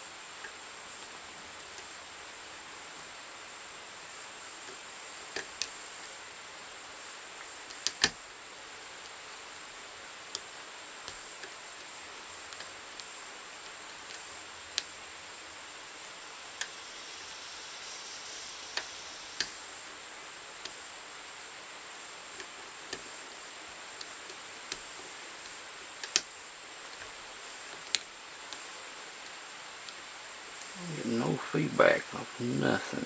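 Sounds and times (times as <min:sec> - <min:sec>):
faint hiss: 0:00.0 - 0:33.0.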